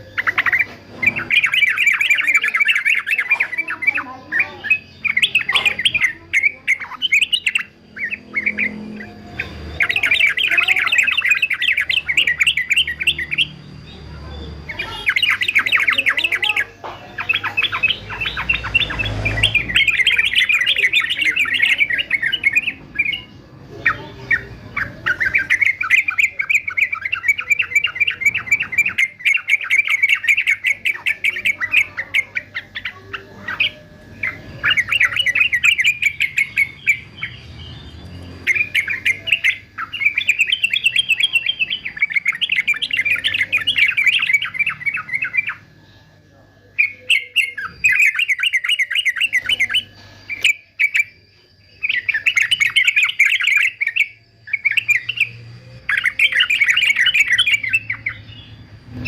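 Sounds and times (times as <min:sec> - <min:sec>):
bird singing chattering notes: 0:00.0 - 0:59.0.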